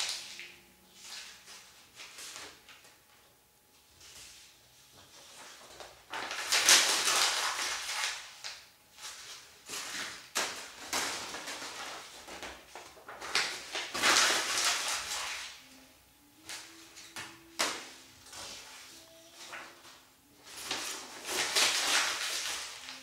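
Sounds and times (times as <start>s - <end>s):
paper crinkling: 4.0s - 15.8s, 16.4s - 23.0s.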